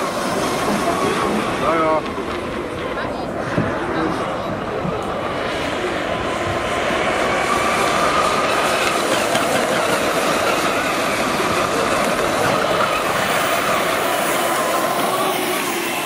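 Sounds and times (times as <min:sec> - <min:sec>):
hull rushing through spray: 0:00.0 - 0:16.0
model gas turbine whine: 0:00.0 - 0:16.0.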